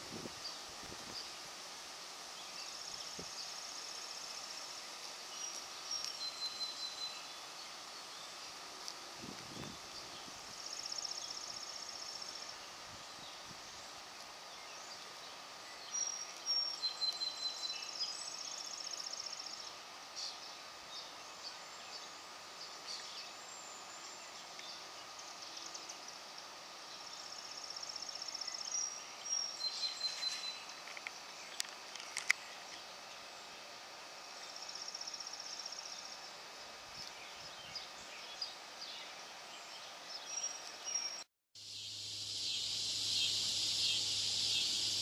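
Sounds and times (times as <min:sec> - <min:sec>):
faint steady drone: 0:00.0 - 0:45.0
songbird singing: 0:00.0 - 0:45.0.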